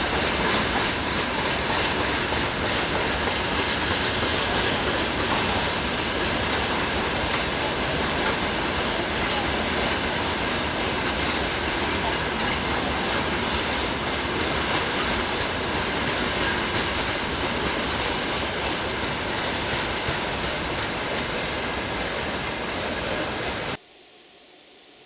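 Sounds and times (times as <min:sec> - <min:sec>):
wheels clattering over rails: 0:00.0 - 0:22.4
freight train rumbling past: 0:00.0 - 0:23.8.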